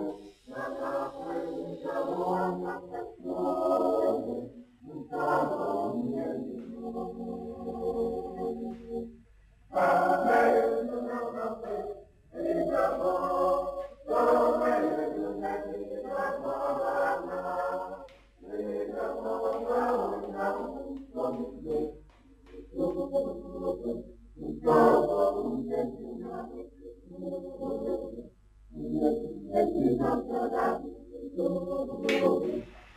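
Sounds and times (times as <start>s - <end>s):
group singing unaccompanied: 0.0s - 32.9s.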